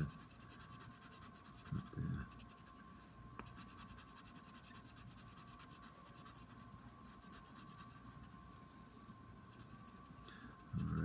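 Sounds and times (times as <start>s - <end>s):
pencil scratching on paper: 0.0s - 2.7s, 3.4s - 8.1s, 9.5s - 11.0s.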